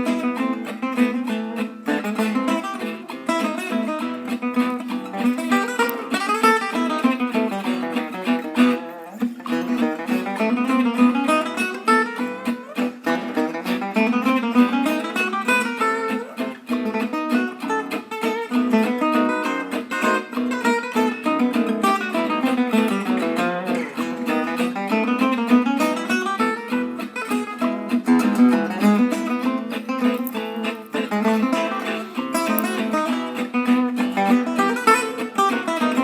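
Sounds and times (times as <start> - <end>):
acoustic guitar music: 0.0 - 36.0.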